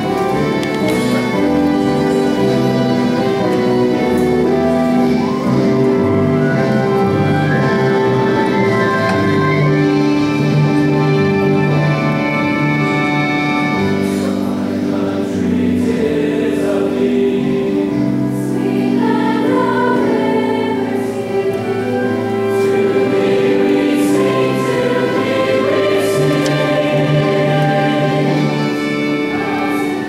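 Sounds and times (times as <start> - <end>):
choir singing slowly: 0.0 - 30.0.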